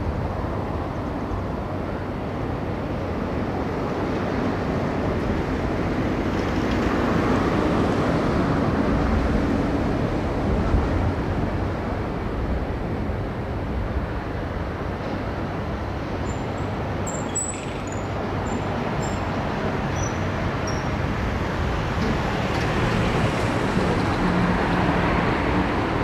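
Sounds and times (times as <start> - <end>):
low rumble of traffic: 0.0 - 26.0.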